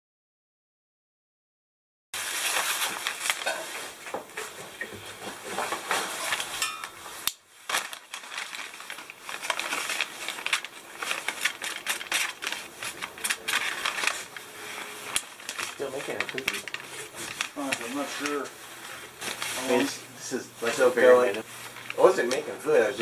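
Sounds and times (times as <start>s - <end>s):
wrapping paper rustling: 2.2s - 23.0s.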